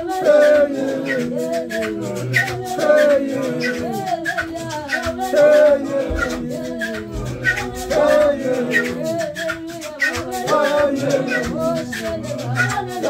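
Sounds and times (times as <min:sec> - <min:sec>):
men singing in harmony: 0:00.0 - 0:13.0
rattling percussive beat: 0:00.0 - 0:13.0.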